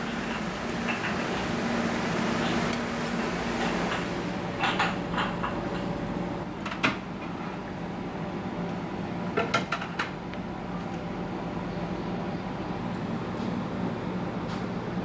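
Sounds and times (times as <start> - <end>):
kitchen hum: 0.0 - 15.0.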